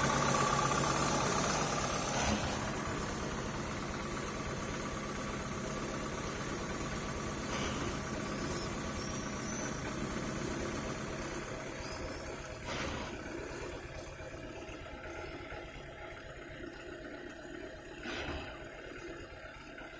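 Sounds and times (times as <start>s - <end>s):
car engine idling roughly: 0.0s - 16.6s.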